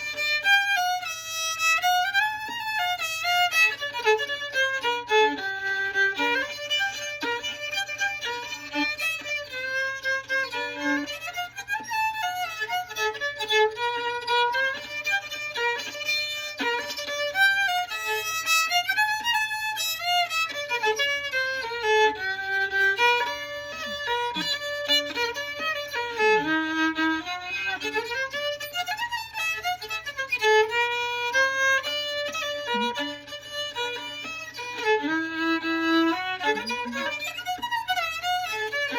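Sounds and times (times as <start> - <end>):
fiddle tune: 0.0 - 38.9.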